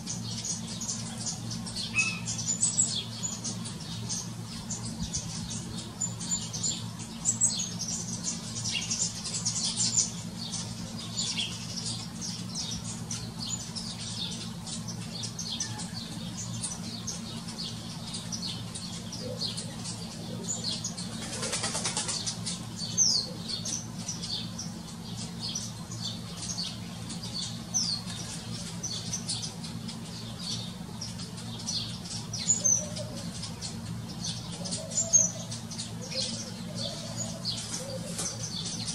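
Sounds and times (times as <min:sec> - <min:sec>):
sparrows chirping: 0:00.0 - 0:38.9
steady low hum: 0:00.0 - 0:38.9.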